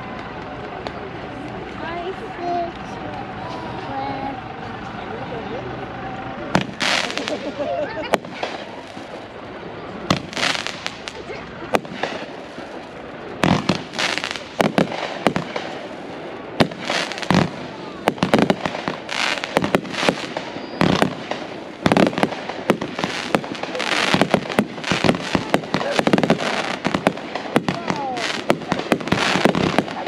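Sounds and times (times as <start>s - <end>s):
fireworks hissing and crackling: 0.0s - 30.0s
fireworks bangs: 5.9s - 30.0s.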